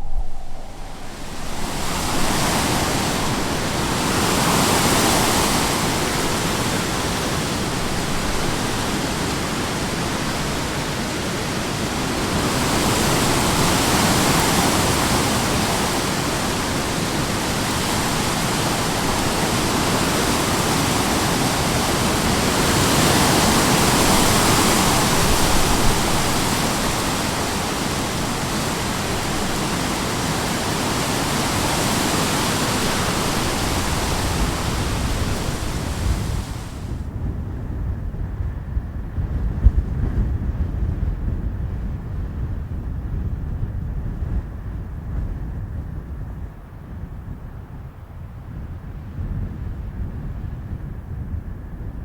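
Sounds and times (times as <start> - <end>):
strong wind gusting: 0.0 - 52.0.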